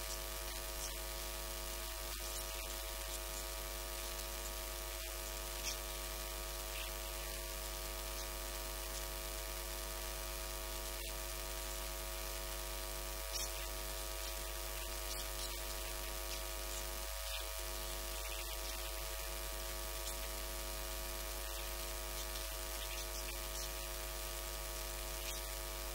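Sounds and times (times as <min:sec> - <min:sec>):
constant hiss: 0:00.0 - 0:25.9
electrical mains hum: 0:00.0 - 0:25.9.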